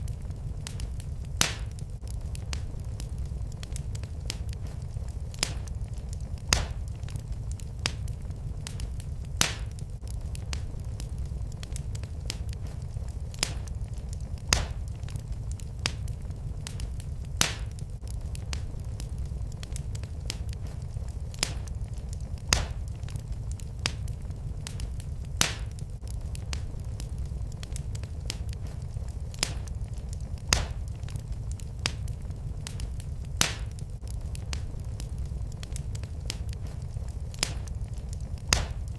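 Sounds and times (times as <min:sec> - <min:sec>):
fireplace fire crackling and popping: 0:00.0 - 0:38.9.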